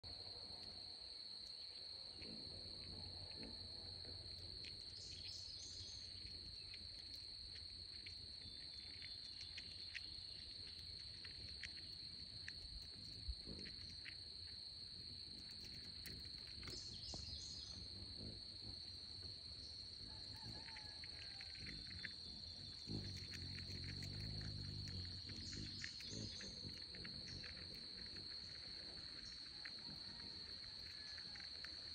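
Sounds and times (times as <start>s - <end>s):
high-pitched insect trill: 0.1s - 31.9s
chipmunk nibbling seeds: 0.2s - 31.9s.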